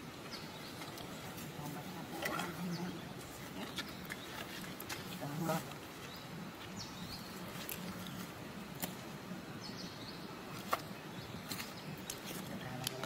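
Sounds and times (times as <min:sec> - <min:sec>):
forest background noise: 0:00.0 - 0:13.0.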